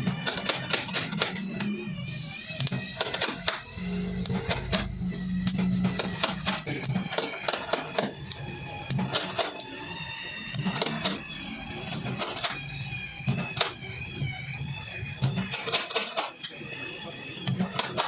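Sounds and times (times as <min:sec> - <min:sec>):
high wavering tone: 0:01.5 - 0:17.8.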